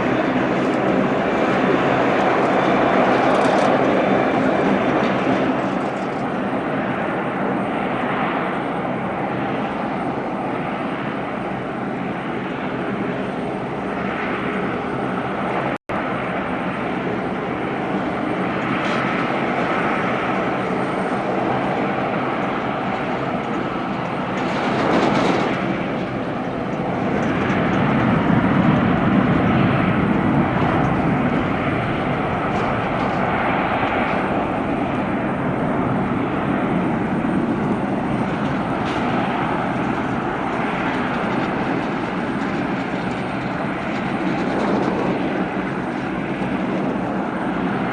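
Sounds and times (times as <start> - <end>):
jet airliner engines roaring: 0.0 - 47.9.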